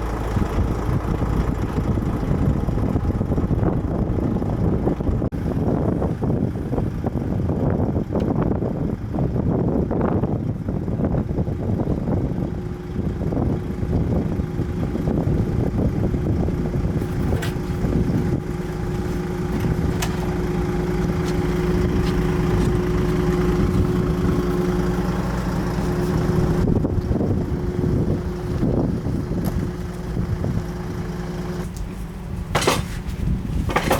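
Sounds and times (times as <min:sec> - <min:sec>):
engine humming: 0:00.0 - 0:33.9
wind and rumble: 0:00.0 - 0:33.9.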